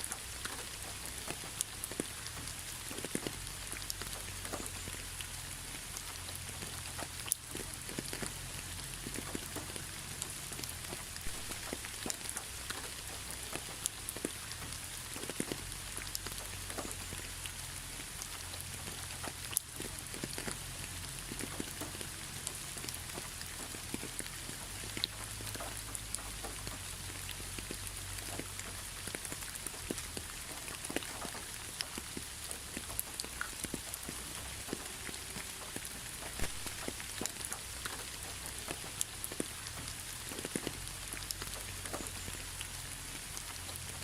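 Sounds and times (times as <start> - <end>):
rain falling: 0.0 - 44.0
raindrops ticking close by: 0.0 - 44.0.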